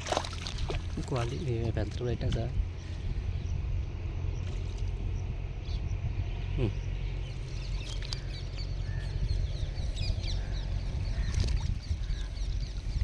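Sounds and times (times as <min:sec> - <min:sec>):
steady low rumble: 0:00.0 - 0:13.0
birds chirping: 0:00.6 - 0:13.0.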